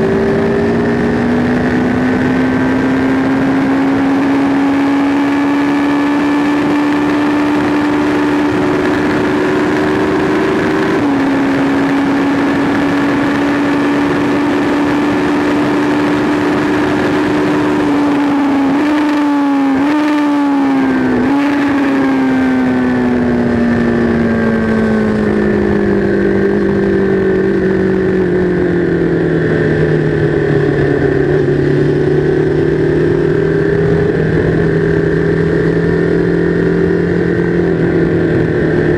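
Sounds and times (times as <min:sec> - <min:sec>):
motorcycle engine at high revs: 0:00.0 - 0:38.9
wind noise: 0:00.0 - 0:38.9.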